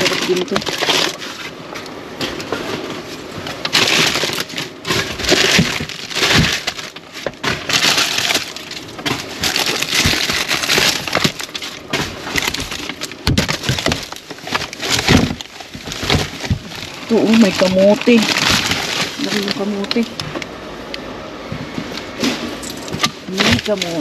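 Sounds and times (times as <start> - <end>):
plastic packaging crinkling: 0.0 - 20.6, 21.7 - 24.0.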